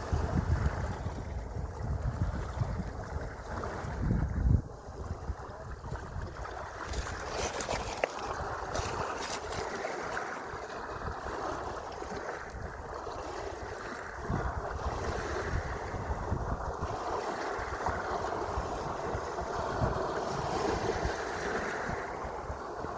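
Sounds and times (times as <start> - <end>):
sea waves splashing: 0.0 - 22.9
wind buffeting microphone: 0.0 - 22.9.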